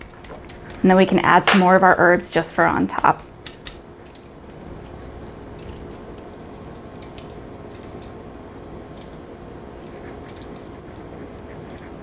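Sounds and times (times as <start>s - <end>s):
dried herbs sprinkled ticking: 0.0s - 11.9s
low room tone hum: 0.0s - 12.0s.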